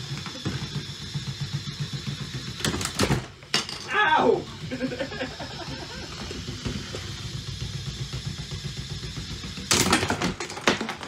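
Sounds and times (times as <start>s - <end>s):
spinning robot weapon whirring: 0.0s - 10.4s.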